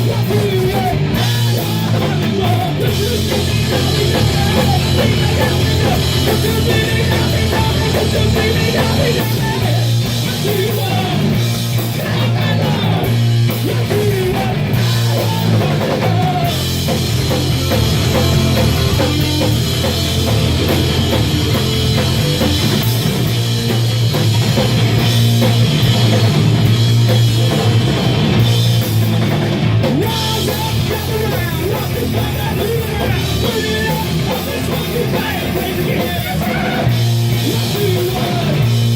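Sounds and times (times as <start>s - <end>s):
drum kit: 0.0s - 38.9s
punk rock band playing live: 0.0s - 38.9s.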